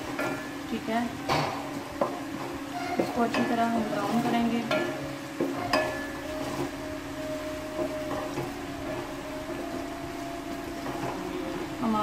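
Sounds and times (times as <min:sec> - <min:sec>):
background hum: 0:00.0 - 0:12.0
onions frying in oil: 0:00.0 - 0:12.0
wooden spoon stirring in pot: 0:00.0 - 0:12.0.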